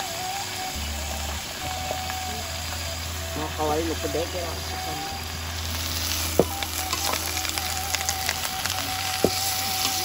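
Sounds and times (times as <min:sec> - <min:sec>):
vegetables sizzling in a wok: 0:00.0 - 0:10.0.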